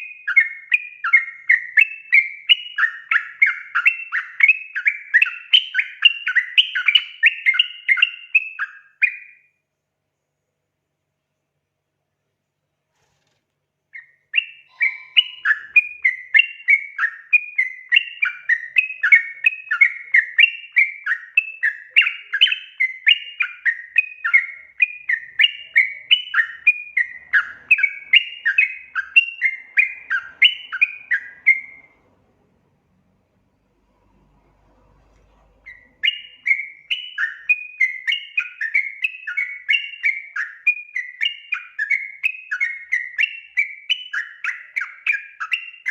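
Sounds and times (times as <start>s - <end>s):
bird chattering song: 0.0s - 9.4s, 13.9s - 32.2s, 35.4s - 45.9s.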